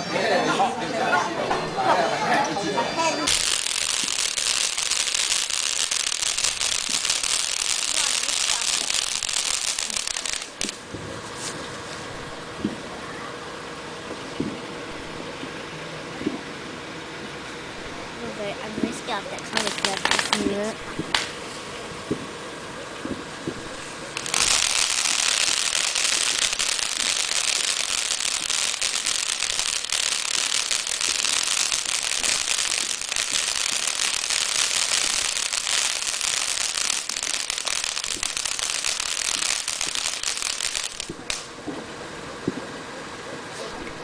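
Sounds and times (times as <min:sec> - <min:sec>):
firework fountain hissing and crackling: 0:00.0 - 0:44.0.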